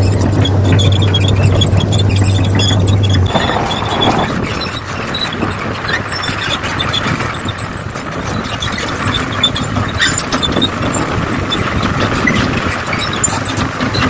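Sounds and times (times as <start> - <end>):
faint high squeaks: 0.0 - 14.0
model vehicle engines running: 0.0 - 14.0.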